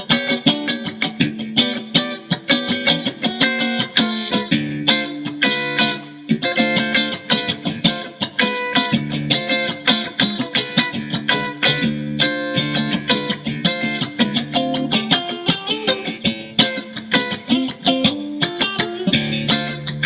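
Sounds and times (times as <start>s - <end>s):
electric guitar picking and strumming: 0.0s - 20.0s.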